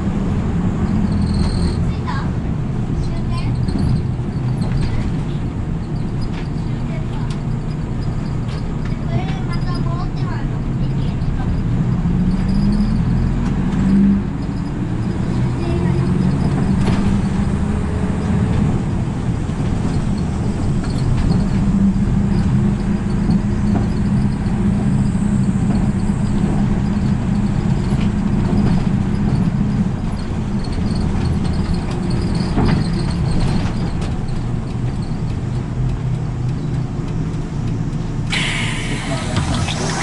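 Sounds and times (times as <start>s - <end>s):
bus diesel engine running: 0.0s - 40.0s
road and tyre noise: 0.0s - 40.0s.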